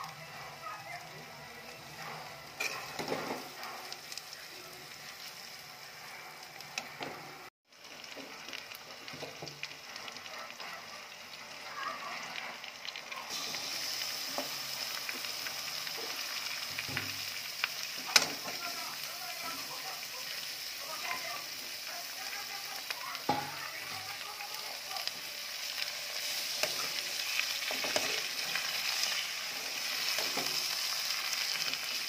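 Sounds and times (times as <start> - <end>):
onions sizzling in hot oil: 0.0 - 32.0.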